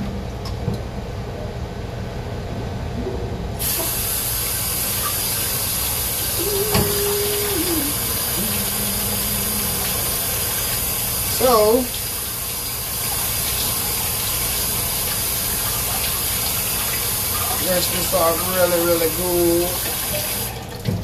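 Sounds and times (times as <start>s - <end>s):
kitchen faucet water running: 3.6s - 21.0s.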